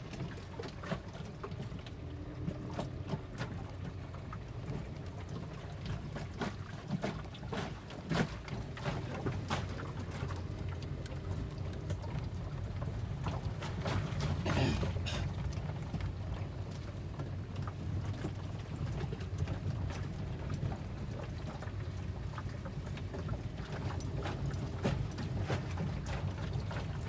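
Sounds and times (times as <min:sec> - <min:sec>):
engine and road rumble in car: 0:00.0 - 0:27.0.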